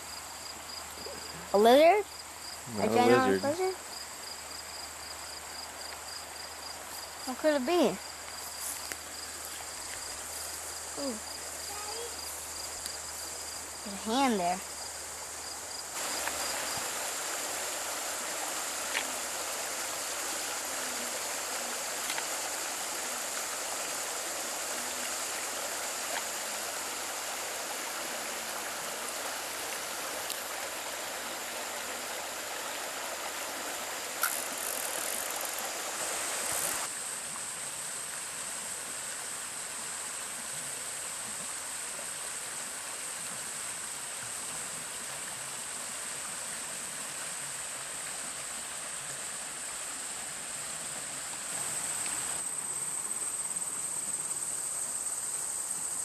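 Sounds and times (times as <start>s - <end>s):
mountain stream running: 0.0s - 56.0s.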